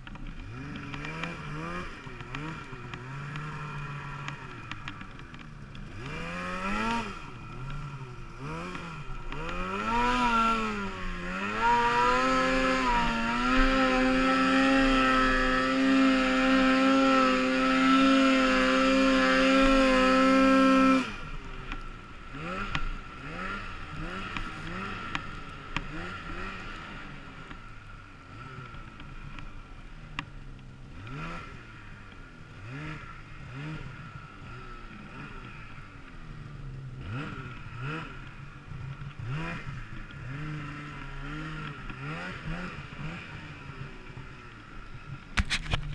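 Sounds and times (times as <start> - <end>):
snowmobile engine revving: 0.0 - 45.9.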